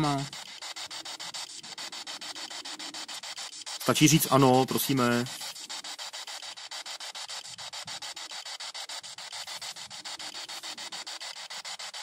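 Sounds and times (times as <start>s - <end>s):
pulsing radio static: 0.0s - 12.0s.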